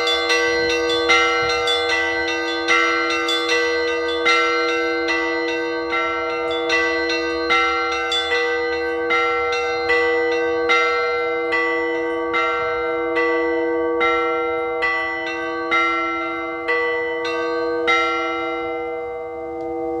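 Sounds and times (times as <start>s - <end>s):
high bells struck in pattern: 0.0s - 20.0s
low bells humming: 0.0s - 20.0s.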